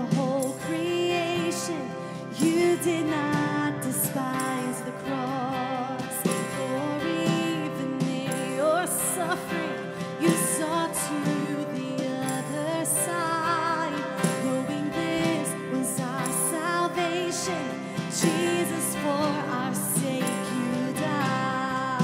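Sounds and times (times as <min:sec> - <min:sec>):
acoustic guitar: 0:00.0 - 0:22.0
woman singing: 0:00.0 - 0:22.0.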